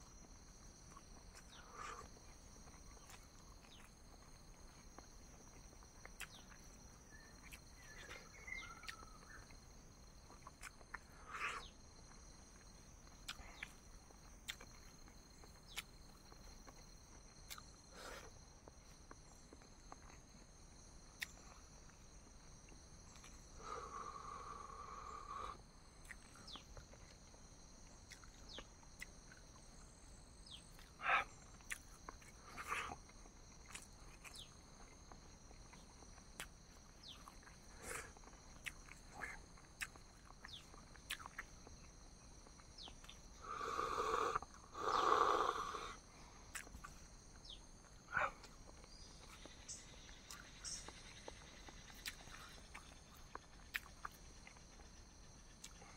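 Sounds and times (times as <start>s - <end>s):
soft chewing: 0.0s - 24.3s, 25.0s - 43.4s, 44.2s - 55.9s.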